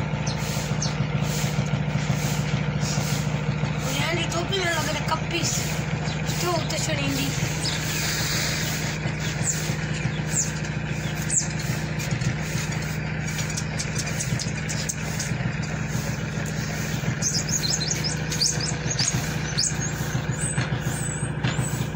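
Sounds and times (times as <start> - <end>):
low mechanical hum: 0.0 - 21.9
small birds chirping: 0.0 - 21.9.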